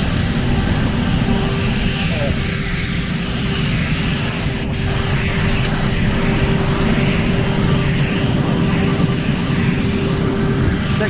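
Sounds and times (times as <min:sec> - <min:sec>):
engine-like rumble: 0:00.0 - 0:11.0
faint high whine: 0:00.0 - 0:11.0.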